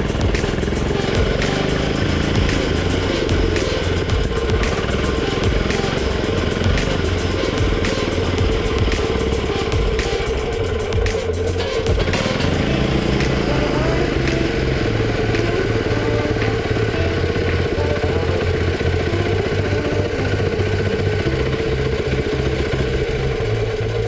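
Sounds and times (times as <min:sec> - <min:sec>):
crawler carrier engine running: 0:00.0 - 0:24.0.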